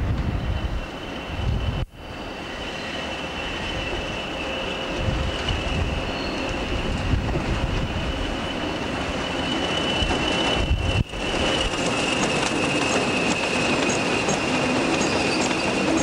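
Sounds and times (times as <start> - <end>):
train rumble: 0.0 - 16.0
train wheel squeal: 0.0 - 16.0.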